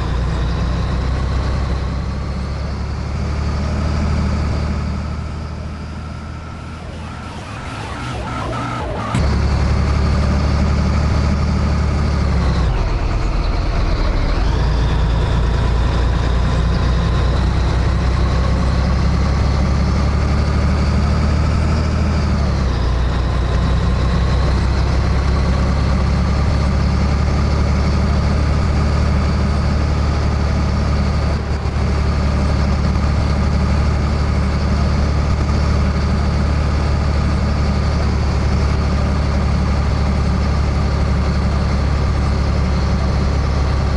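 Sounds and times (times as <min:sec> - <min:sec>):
truck diesel engine running: 0:00.0 - 0:43.9.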